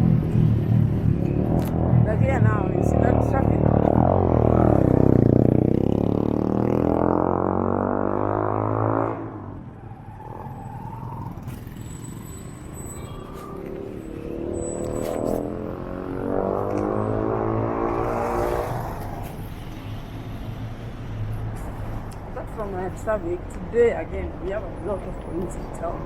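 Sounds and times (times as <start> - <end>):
traffic noise: 0.0 - 26.0
vehicle engine droning: 0.0 - 26.0.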